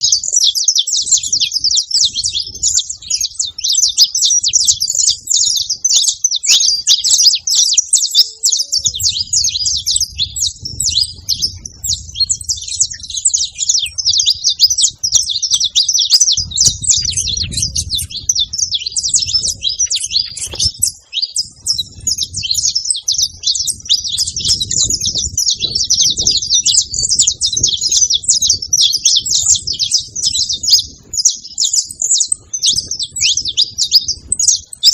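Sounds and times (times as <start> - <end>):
finch chirping rapidly: 0.0 - 34.9.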